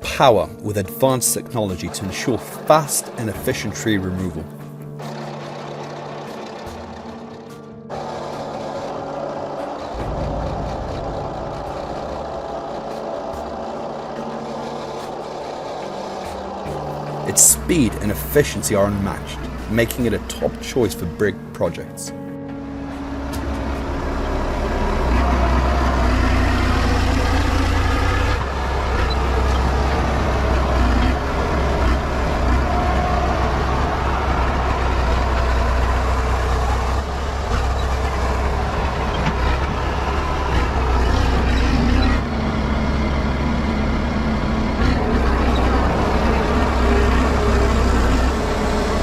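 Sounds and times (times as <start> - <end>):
bulldozer diesel engine rumbling: 0.0 - 49.0.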